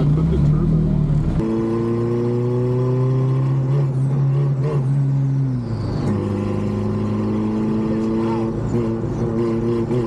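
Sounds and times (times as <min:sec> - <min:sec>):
car engine running under load: 0:00.0 - 0:10.0.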